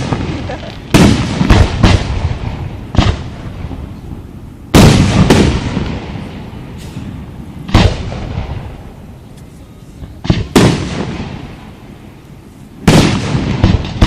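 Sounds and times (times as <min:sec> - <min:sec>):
fireworks booming: 0:00.0 - 0:14.0.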